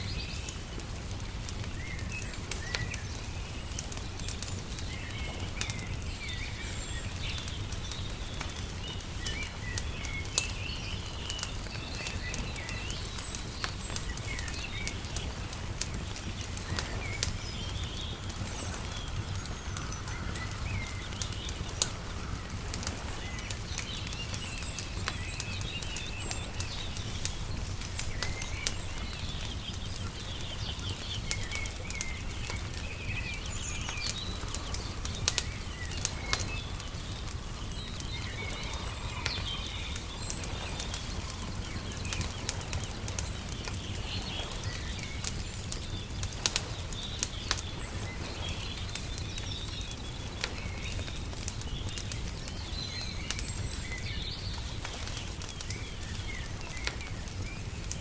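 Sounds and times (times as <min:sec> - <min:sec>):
birds chirping: 0:00.0 - 0:58.0
wood fire crackling and popping: 0:00.0 - 0:58.0.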